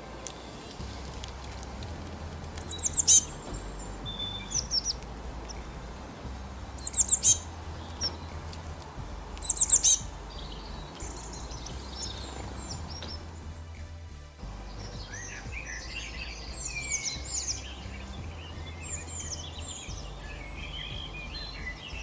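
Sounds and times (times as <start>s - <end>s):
songbird chirping: 0.0s - 22.0s
steady low background hum: 0.0s - 22.0s.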